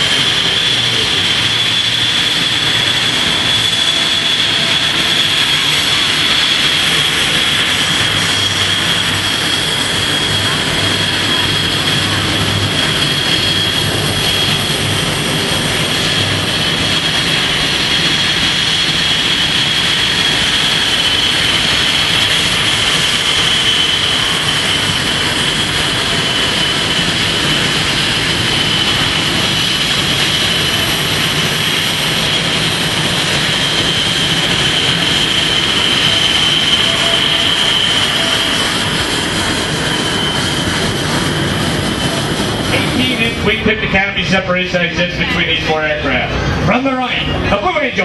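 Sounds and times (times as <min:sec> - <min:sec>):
jet engines whining and roaring: 0:00.0 - 0:48.0.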